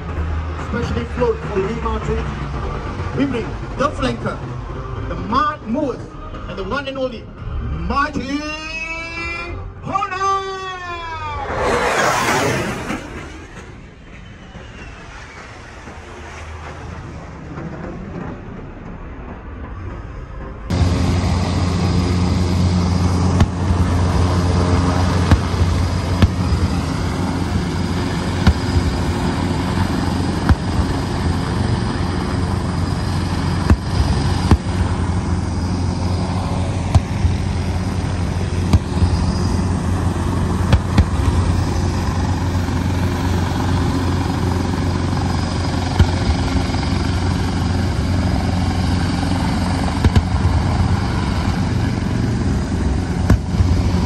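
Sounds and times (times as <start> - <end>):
helicopter rotor drone: 0.0 - 54.0
turbine whine: 0.0 - 54.0.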